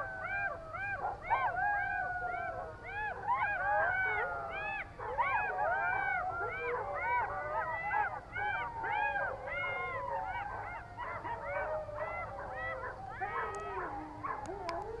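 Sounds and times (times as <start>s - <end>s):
jackals howling and yipping: 0.0s - 15.0s.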